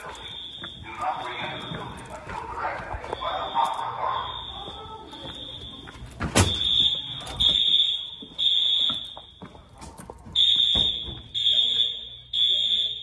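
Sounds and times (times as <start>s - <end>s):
fire alarm horns: 0.0s - 13.0s.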